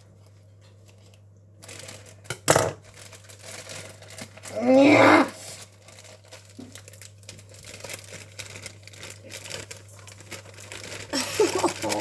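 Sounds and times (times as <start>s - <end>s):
packet crinkling and rustling: 0.2s - 12.0s.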